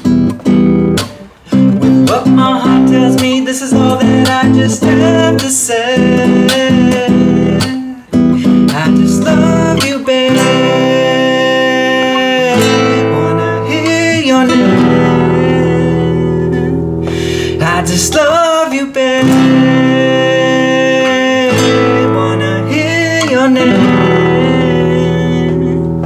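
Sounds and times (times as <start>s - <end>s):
acoustic guitar chords: 0.0s - 26.0s
man singing: 1.5s - 26.0s.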